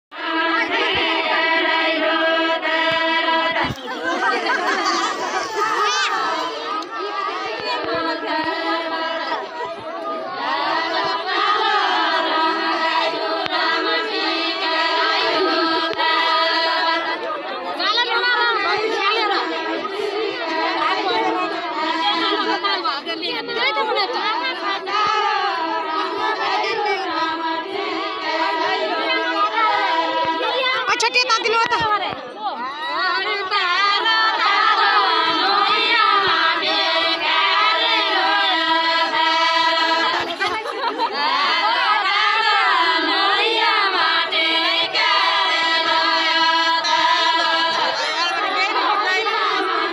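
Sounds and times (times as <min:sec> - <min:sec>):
women singing in chorus: 0:00.1 - 0:49.9.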